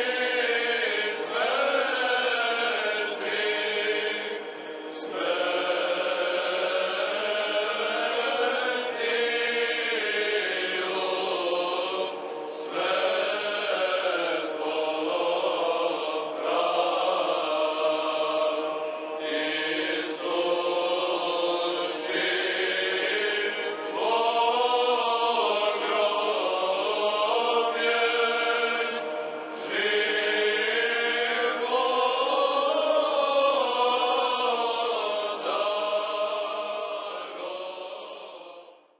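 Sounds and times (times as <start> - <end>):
choir chanting: 0.0 - 38.9.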